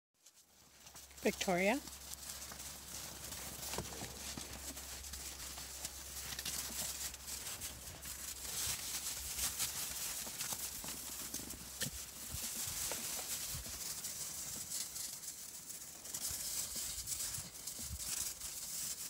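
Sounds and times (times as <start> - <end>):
dog paws crunching snow: 0.2 - 19.0.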